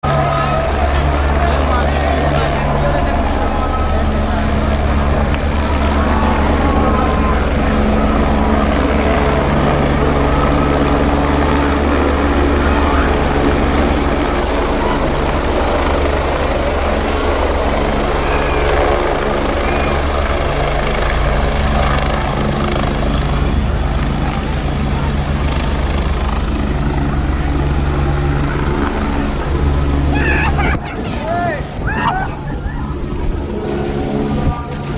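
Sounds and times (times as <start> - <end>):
helicopter rotor drone: 0.0 - 34.9.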